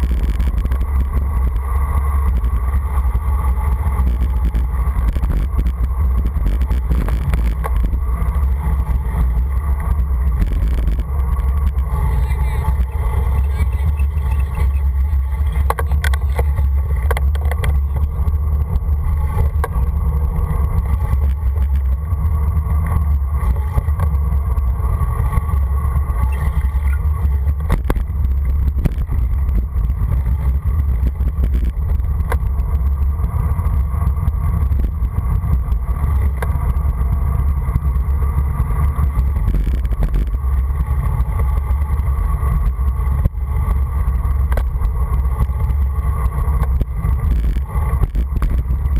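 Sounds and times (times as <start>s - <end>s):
tyre noise on asphalt: 0.0s - 48.9s
wind buffeting microphone: 0.0s - 48.9s.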